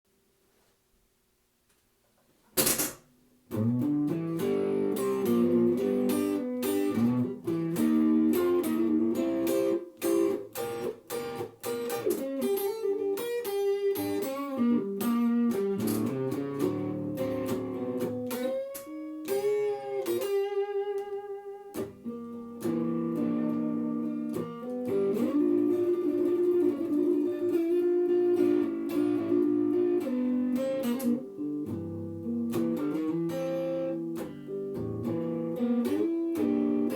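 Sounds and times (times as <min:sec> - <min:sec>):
slow blues guitar: 0:03.5 - 0:36.9.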